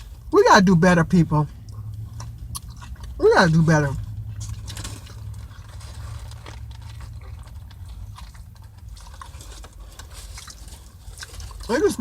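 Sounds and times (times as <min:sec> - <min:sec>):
steady low hum: 0:00.0 - 0:12.0
person chewing: 0:01.4 - 0:12.0.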